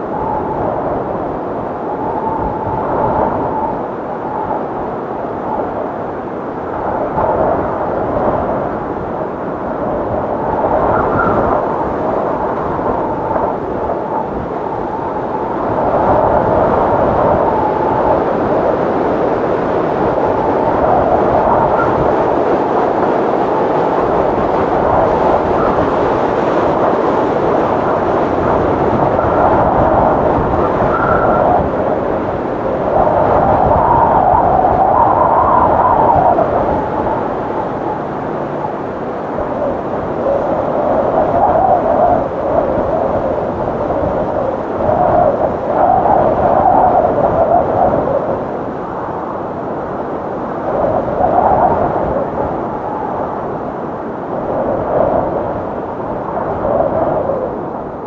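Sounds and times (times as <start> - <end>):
strong wind howling: 0.0 - 58.0.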